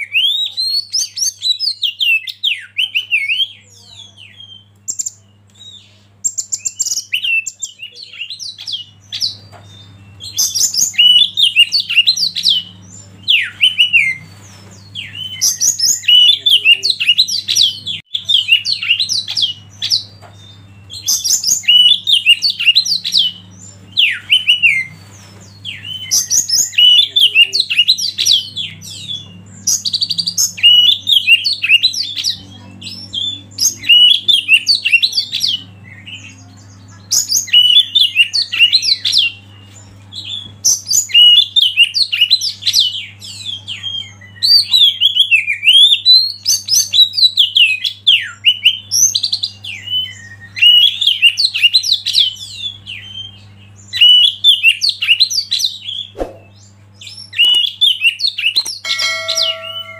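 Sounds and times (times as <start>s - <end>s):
bird whistling and chattering: 0.0s - 36.4s, 40.2s - 59.9s.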